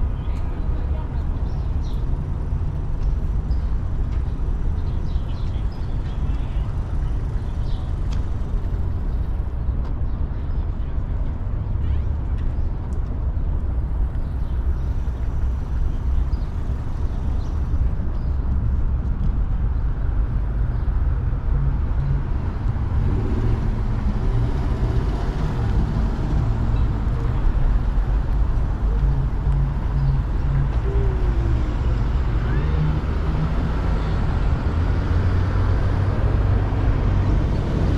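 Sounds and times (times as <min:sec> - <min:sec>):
cars passing: 0:00.0 - 0:37.9
low traffic rumble: 0:00.0 - 0:37.9.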